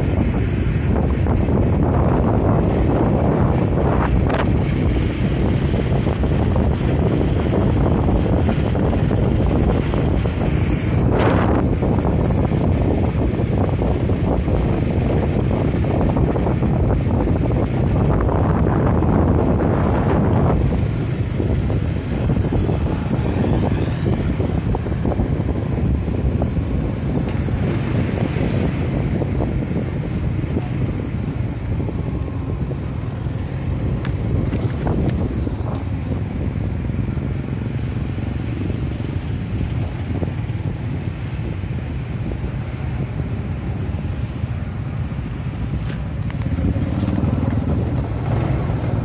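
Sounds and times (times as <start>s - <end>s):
motorcycle engines droning: 0.0s - 49.0s
wind buffeting microphone: 0.0s - 49.0s.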